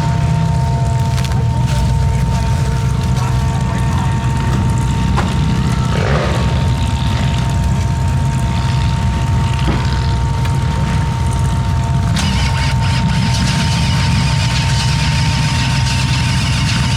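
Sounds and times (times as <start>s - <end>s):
faint constant whine: 0.0s - 16.9s
vehicle engine running: 0.0s - 16.9s.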